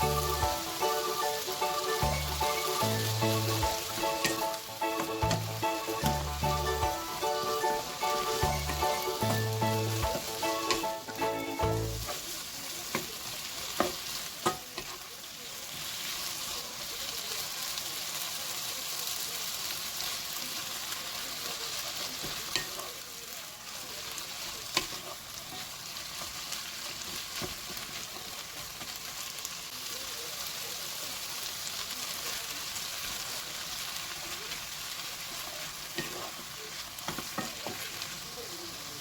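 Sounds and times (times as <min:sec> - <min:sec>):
food sizzling in pan: 0:00.0 - 0:39.0.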